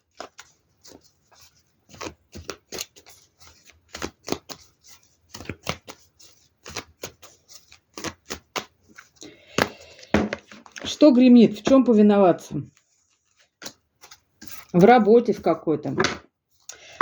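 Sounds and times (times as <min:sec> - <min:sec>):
cards being shuffled: 0:00.1 - 0:11.0, 0:12.7 - 0:16.7.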